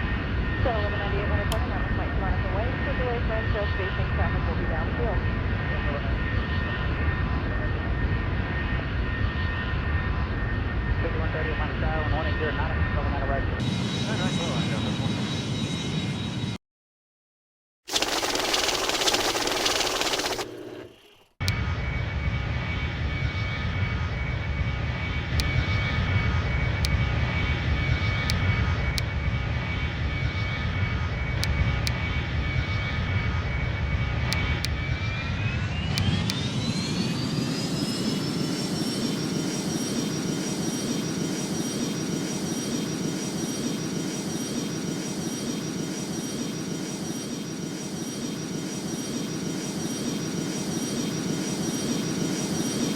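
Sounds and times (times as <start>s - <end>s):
jet engines whining: 0.0s - 16.6s, 17.9s - 52.9s.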